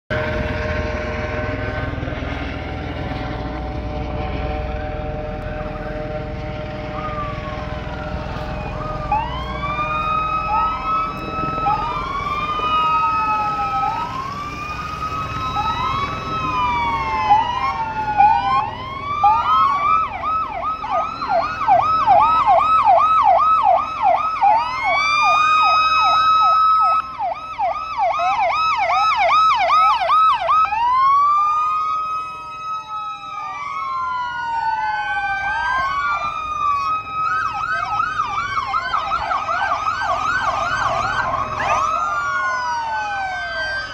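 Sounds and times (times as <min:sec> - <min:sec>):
low vehicle rumble: 0:00.1 - 0:43.9
police sirens wailing: 0:00.1 - 0:43.9.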